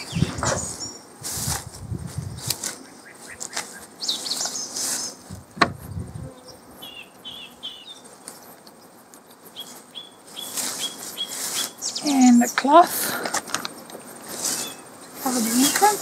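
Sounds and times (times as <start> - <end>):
bird chirping: 0.0 - 1.1, 2.4 - 5.2, 5.8 - 12.7, 13.6 - 15.8
bees buzzing: 0.0 - 16.0.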